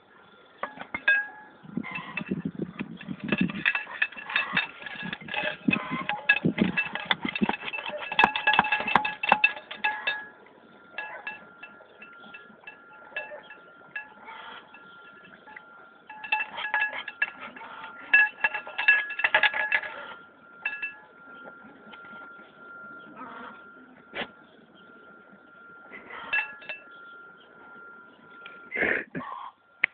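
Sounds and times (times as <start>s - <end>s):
faint steady high tone: 0.0s - 29.9s
dishes clinking and rattling: 0.6s - 28.4s.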